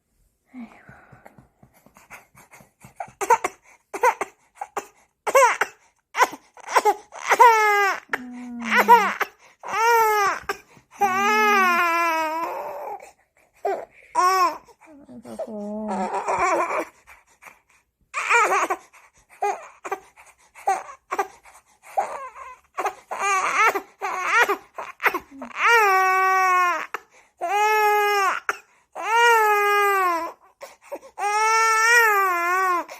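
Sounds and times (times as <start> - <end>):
baby crying: 2.3 - 17.2, 18.1 - 32.9.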